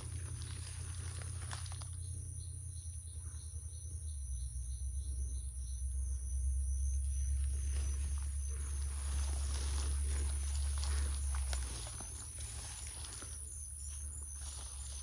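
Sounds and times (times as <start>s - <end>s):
insect chirping: 0.0s - 15.0s
steady low rumble: 0.0s - 15.0s.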